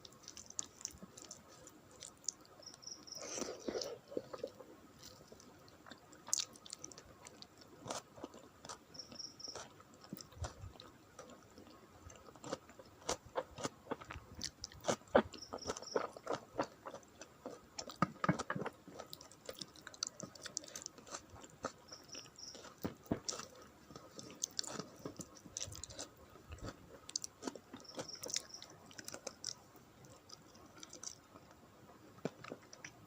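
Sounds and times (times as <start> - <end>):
person chewing food: 0.0 - 31.6, 32.2 - 33.0.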